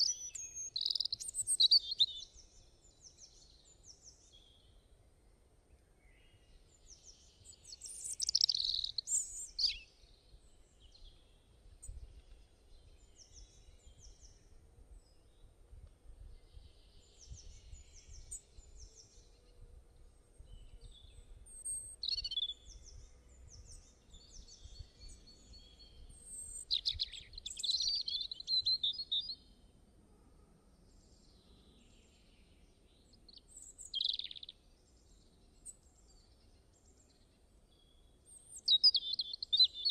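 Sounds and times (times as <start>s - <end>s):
small birds chirping and singing: 0.0s - 5.0s, 5.7s - 29.7s, 30.8s - 39.9s.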